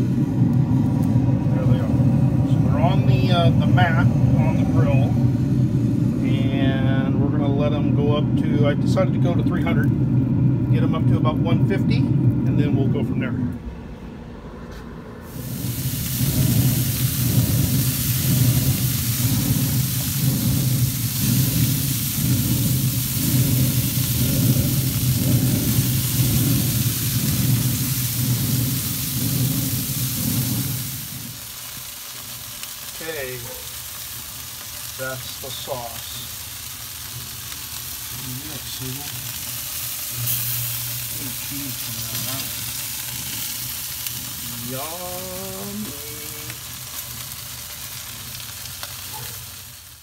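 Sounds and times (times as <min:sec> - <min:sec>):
meat sizzling on a grill: 0:00.0 - 0:11.4, 0:15.3 - 0:50.0
low rumble: 0:00.0 - 0:48.8.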